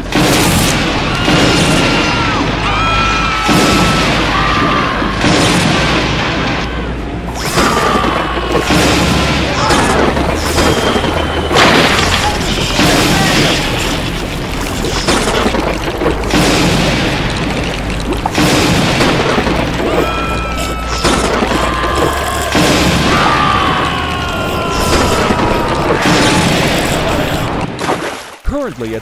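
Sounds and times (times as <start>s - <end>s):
background music: 0.0s - 27.8s
heavy rain: 0.0s - 27.8s
thunder booms: 0.0s - 27.8s.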